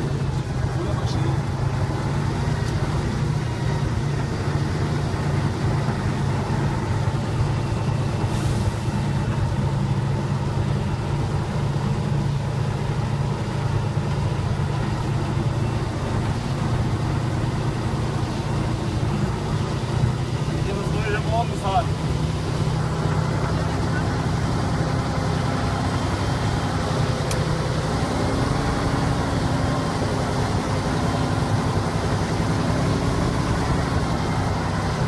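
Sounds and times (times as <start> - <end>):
truck diesel engine drone: 0.0 - 35.0.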